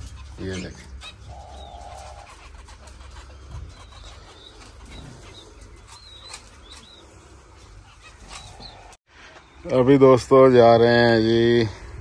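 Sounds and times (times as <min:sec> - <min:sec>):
small birds chirping: 0:00.0 - 0:10.8.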